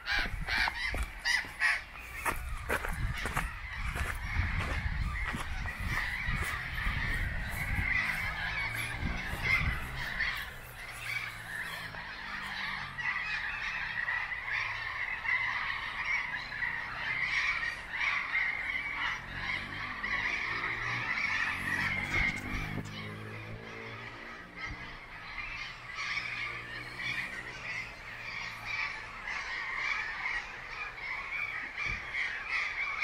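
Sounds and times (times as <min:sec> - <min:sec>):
birds honking: 0:00.0 - 0:33.0.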